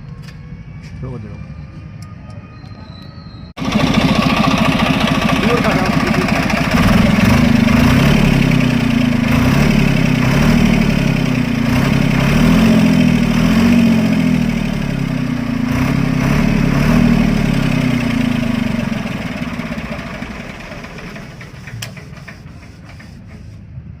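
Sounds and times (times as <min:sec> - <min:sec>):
tractor diesel engine running: 0:03.6 - 0:23.7.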